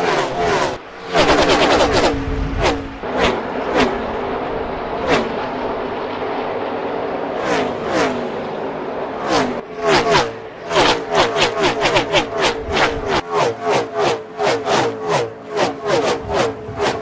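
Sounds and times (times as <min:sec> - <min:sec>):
race cars passing at speed: 0:00.0 - 0:17.0.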